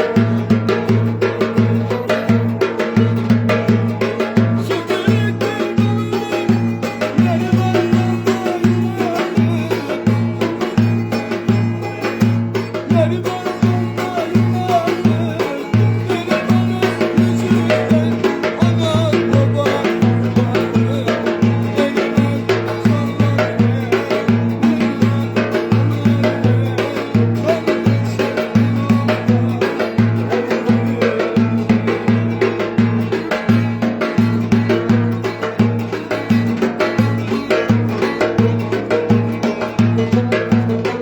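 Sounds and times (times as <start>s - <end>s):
folk dance music: 0.0s - 41.0s
quick drum beat: 0.0s - 41.0s.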